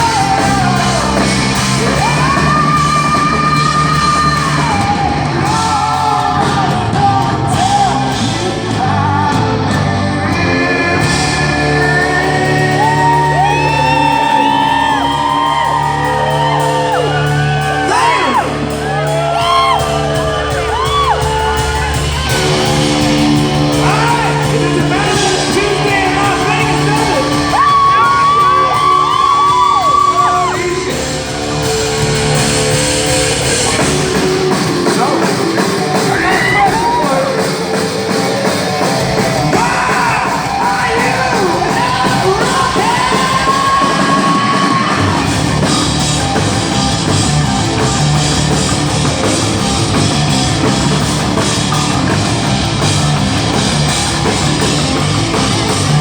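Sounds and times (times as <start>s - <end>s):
live hard rock band: 0.0s - 56.0s
singer holding long notes: 0.0s - 56.0s.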